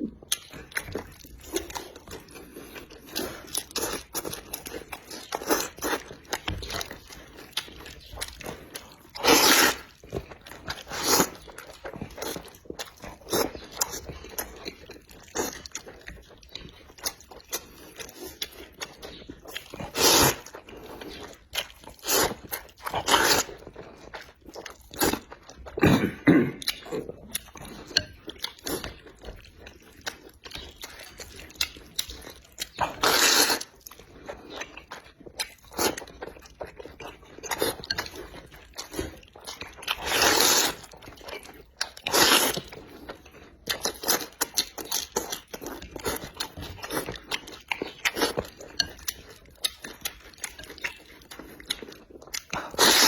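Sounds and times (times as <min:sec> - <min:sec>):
person chewing and crunching food: 0:00.0 - 0:53.0.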